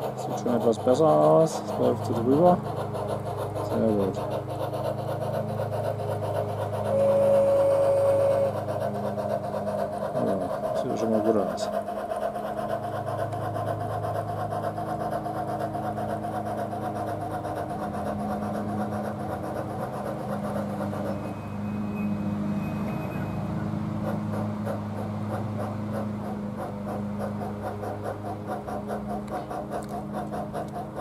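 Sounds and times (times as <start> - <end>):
lawnmower engine running: 0.0 - 31.0
model locomotive steam chuffing: 0.0 - 31.0.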